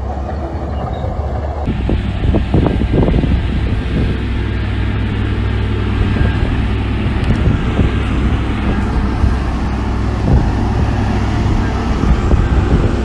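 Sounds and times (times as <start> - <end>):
heavy diesel engine droning: 0.0 - 13.0
rushing noise: 0.0 - 13.0.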